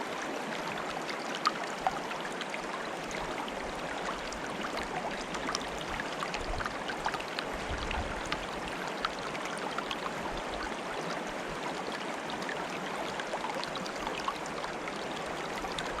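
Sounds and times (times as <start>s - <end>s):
stream water bubbling and trickling: 0.0s - 16.0s.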